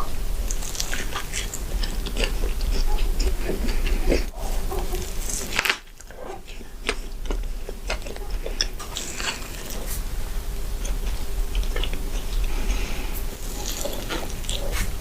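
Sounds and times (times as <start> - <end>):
chewing with crisp crunches: 0.0 - 15.0.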